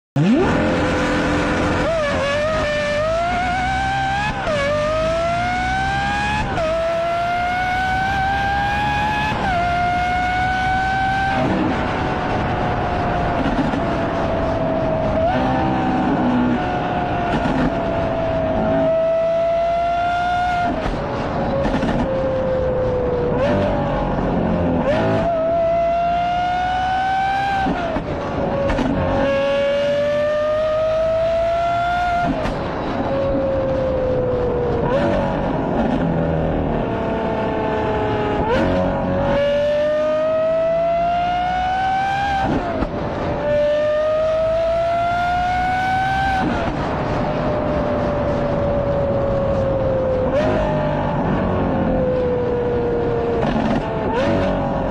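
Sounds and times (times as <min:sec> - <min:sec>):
race car engine revving: 0:00.2 - 0:54.9.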